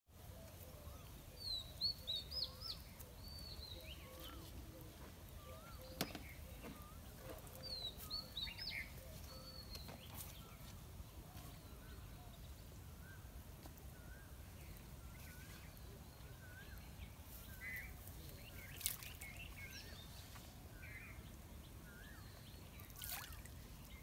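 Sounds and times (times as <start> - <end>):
birds chirping: 0.2 - 24.0.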